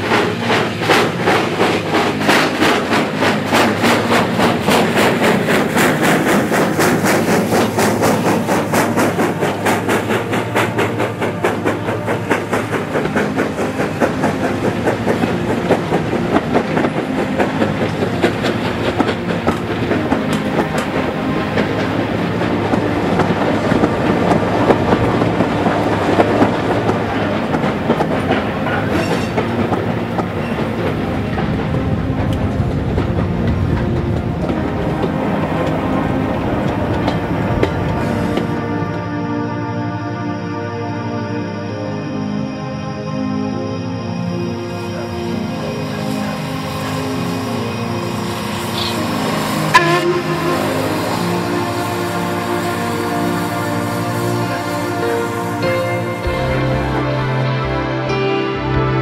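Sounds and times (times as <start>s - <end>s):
steam train chugging: 0.0s - 42.4s, 43.4s - 59.0s.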